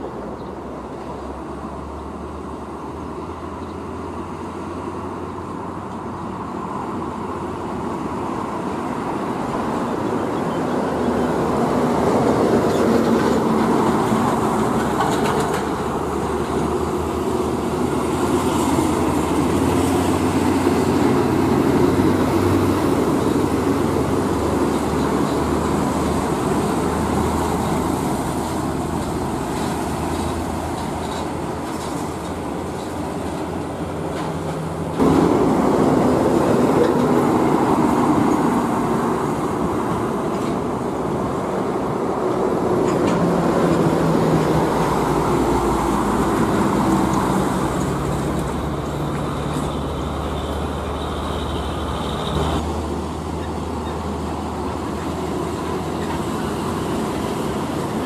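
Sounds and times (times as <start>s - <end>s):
diesel truck engines droning: 0.0s - 58.0s
traffic noise: 0.0s - 58.0s.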